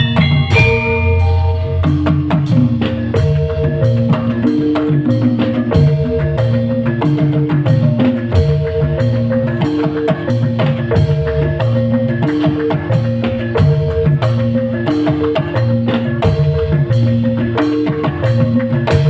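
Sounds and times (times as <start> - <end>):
live instrumental band music: 0.0 - 19.0.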